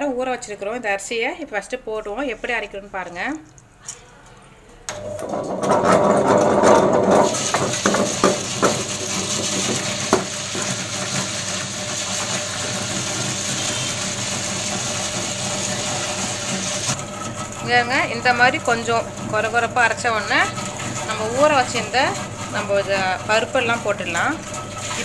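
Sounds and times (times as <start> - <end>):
wet grinder humming: 4.9 - 25.0.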